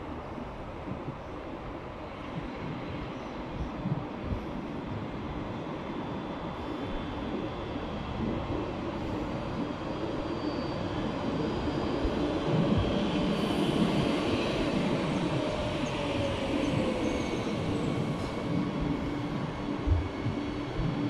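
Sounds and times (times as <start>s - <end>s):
train running past: 0.0s - 21.0s.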